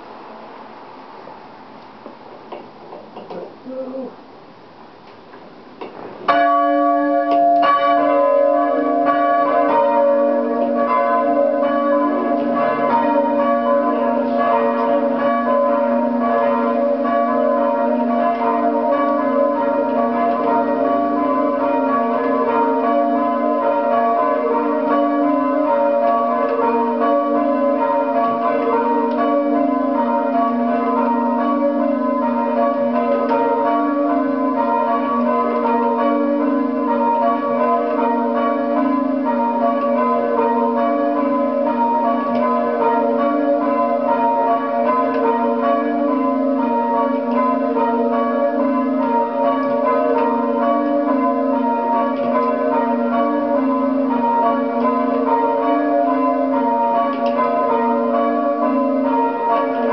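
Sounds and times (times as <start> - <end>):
church bells ringing: 6.3 - 59.9.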